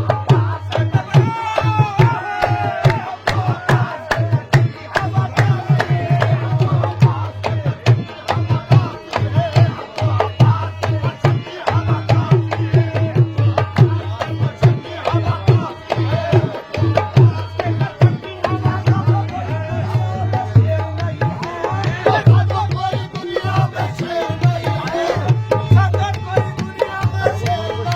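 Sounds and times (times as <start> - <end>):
harmonium sustained tones: 2.7 - 27.9.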